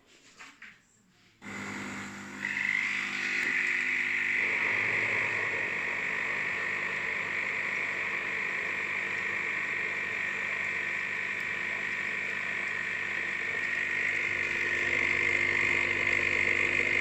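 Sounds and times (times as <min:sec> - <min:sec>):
high-pitched mechanical buzz: 0:01.4 - 0:17.0.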